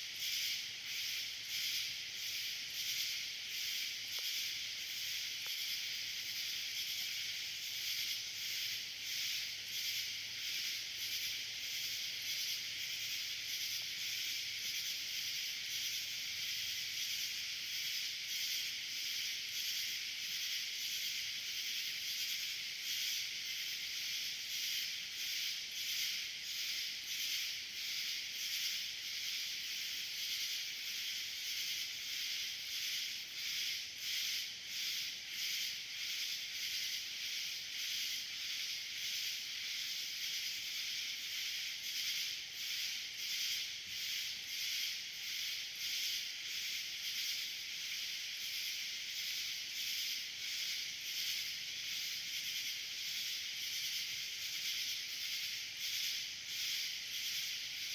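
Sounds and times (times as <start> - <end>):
cicadas buzzing: 0.0 - 57.9.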